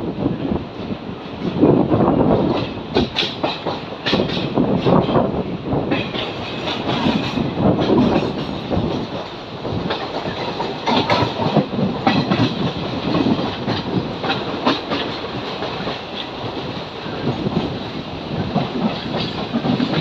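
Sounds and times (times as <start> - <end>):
train wheels clattering over rail joints: 2.3 - 20.0.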